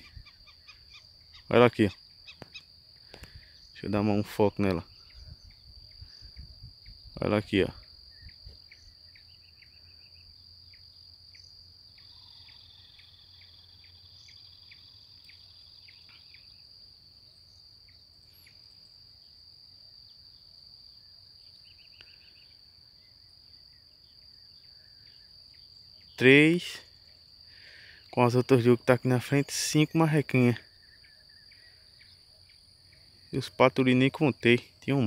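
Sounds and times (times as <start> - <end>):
high-pitched insect trill: 0.0 - 35.0.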